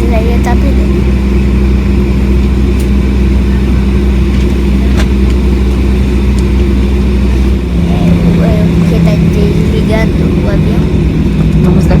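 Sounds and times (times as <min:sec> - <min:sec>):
airliner cabin drone: 0:01.2 - 0:12.0.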